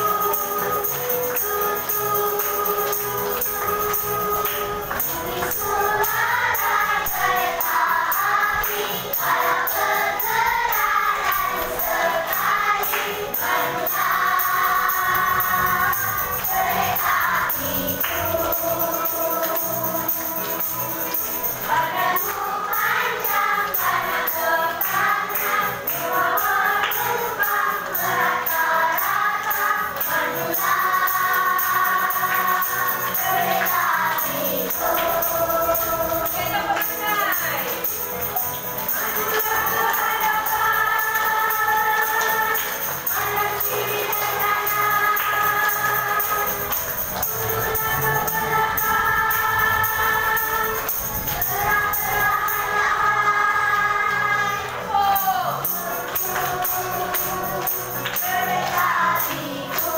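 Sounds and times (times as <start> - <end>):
group singing in unison: 0.0 - 59.9.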